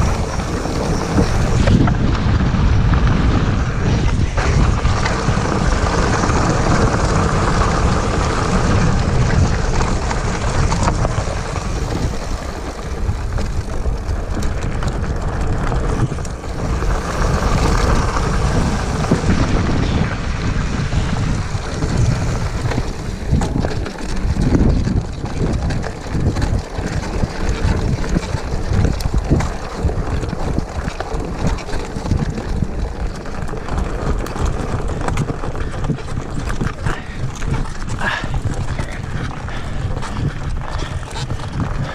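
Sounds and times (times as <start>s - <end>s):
bike knocking and rattling: 0.0s - 41.9s
tyres crunching over gravel: 0.0s - 41.9s
wind buffeting microphone: 0.0s - 41.9s.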